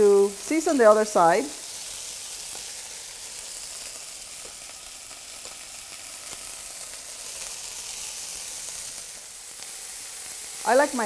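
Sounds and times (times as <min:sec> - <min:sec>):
steaks sizzling in a skillet: 0:00.0 - 0:11.0.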